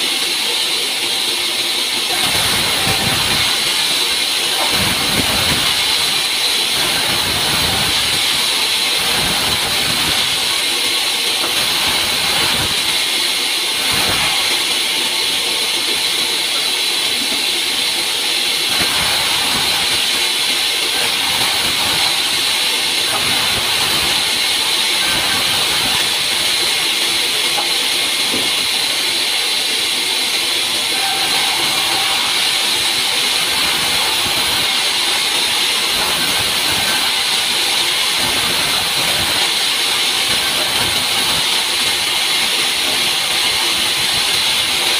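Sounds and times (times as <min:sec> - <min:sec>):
band saw cutting wood: 0:00.0 - 0:44.9.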